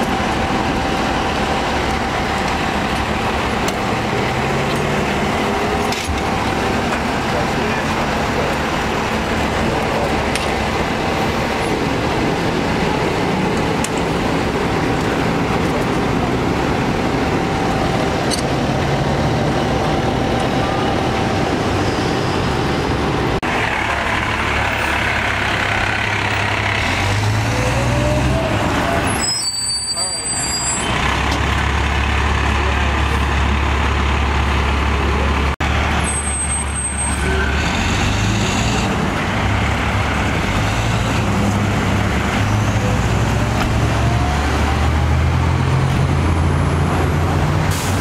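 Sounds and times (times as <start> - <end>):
diesel engines idling: 0.0 - 48.0
truck pulling away: 0.0 - 48.0.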